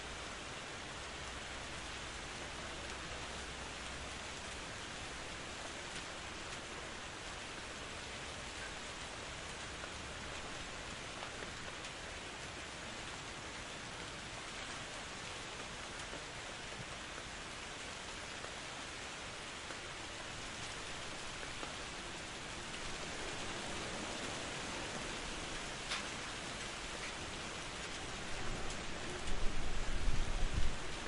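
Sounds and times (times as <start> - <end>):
faint raindrop ticks: 0.0 - 31.0
steady rain hiss: 0.0 - 31.0.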